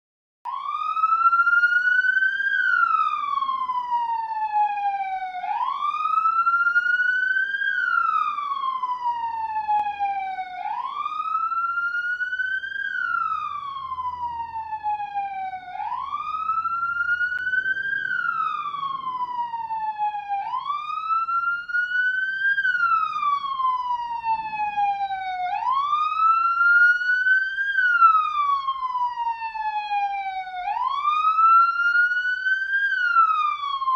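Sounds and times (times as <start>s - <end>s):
police siren wailing: 0.5s - 33.9s.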